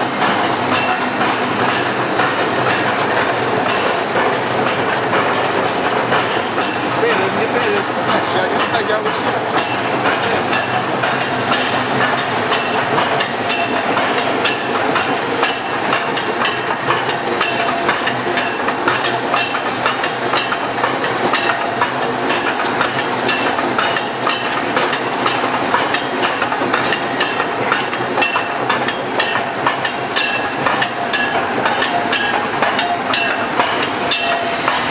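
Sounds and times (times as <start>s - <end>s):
machine metallic clatter: 0.0s - 34.9s.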